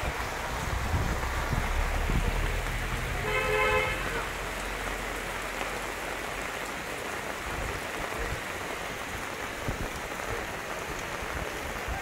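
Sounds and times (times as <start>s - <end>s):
heavy rain on flooded road: 0.0s - 12.0s.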